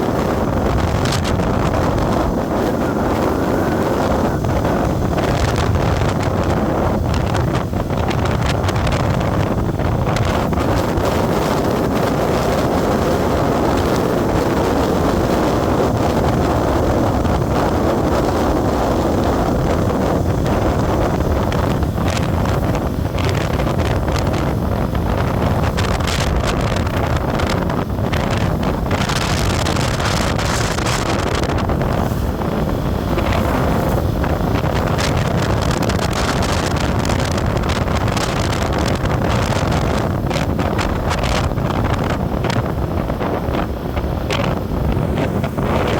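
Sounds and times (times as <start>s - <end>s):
road vehicle running noise: 0.0s - 45.9s
wind buffeting microphone: 0.0s - 45.9s.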